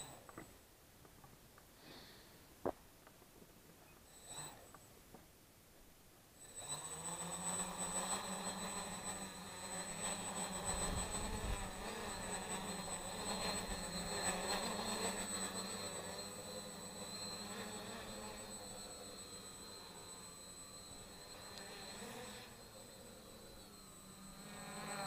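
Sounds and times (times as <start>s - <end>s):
quadcopter motors humming and whining: 0.0s - 0.6s, 3.8s - 5.2s, 6.4s - 25.0s.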